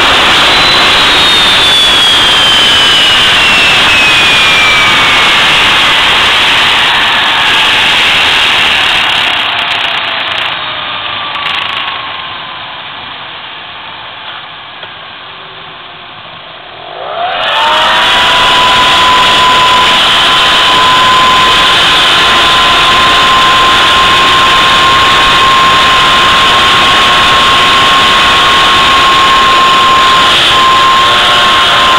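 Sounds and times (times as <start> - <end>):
jet engine roar: 0.0 - 31.9
jet engine whine: 0.0 - 31.9.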